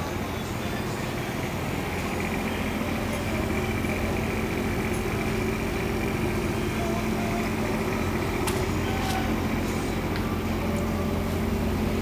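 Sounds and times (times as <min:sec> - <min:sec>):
engine hum with high whine: 0:00.0 - 0:12.0.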